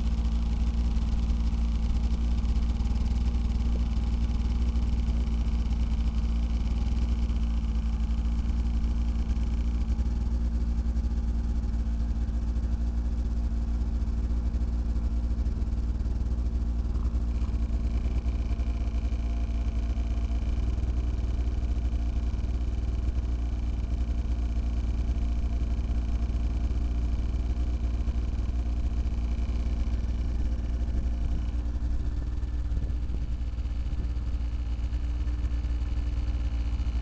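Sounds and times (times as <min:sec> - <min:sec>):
snowmobile engine idling: 0:00.0 - 0:37.0.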